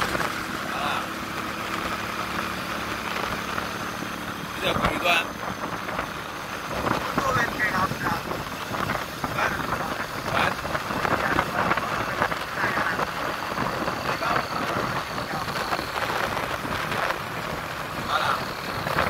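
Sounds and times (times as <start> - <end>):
motorcycle engine and road noise: 0.0 - 19.0
wind rushing over microphone: 0.0 - 19.0.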